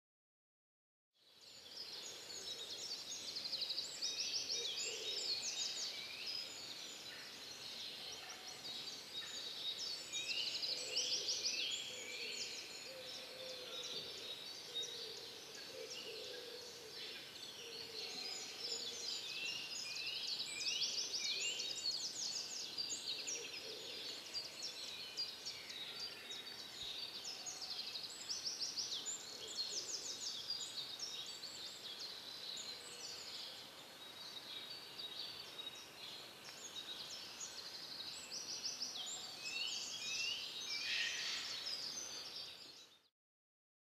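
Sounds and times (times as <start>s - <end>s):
songbirds chirping and trilling: 1.2s - 43.1s.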